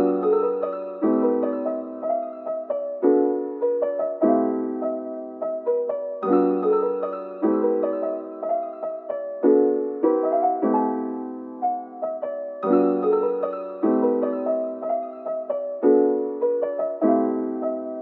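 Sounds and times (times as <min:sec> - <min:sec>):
soft slow piano piece: 0:00.0 - 0:18.0.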